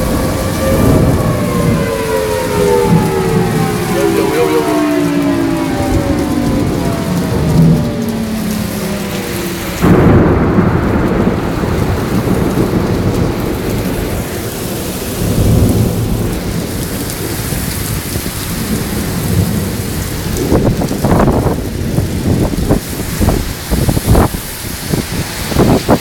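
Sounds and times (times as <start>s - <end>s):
gusting wind: 0.0s - 26.0s
heavy rain: 0.0s - 26.0s
thunder rumbling: 0.0s - 26.0s.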